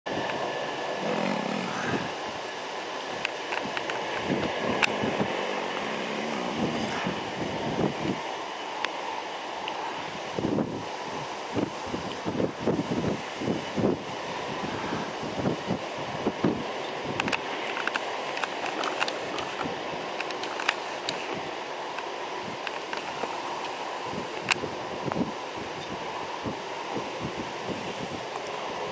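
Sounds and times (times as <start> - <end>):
jet engine noise: 0.1 - 28.9
wind buffeting microphone: 0.1 - 28.9.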